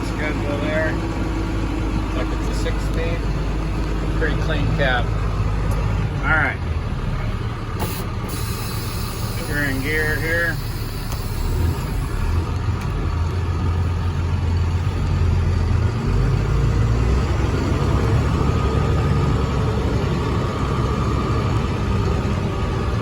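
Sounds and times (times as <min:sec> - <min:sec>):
diesel truck engine pulling away: 0:00.0 - 0:23.0.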